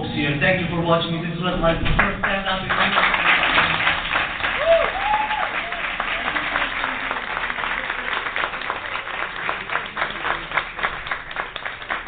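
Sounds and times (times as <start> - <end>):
audience applauding: 2.0 - 12.0.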